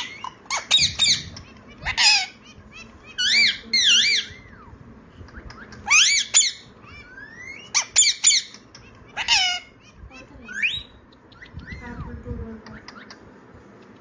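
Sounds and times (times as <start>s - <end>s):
parakeet squawking: 0.0s - 4.6s, 5.6s - 13.2s.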